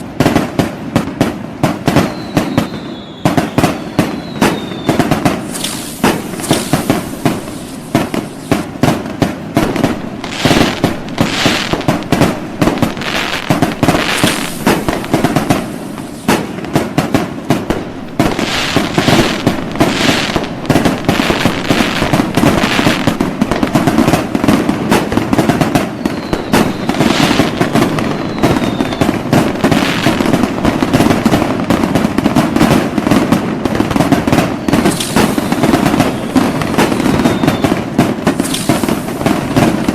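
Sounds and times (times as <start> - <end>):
fireworks bangs and crackles: 0.0 - 39.9
firework shells whistling: 1.6 - 39.9.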